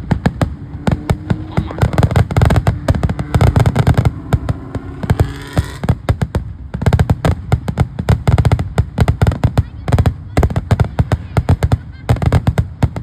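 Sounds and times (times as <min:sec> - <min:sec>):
fireworks crackling bangs: 0:00.0 - 0:13.0.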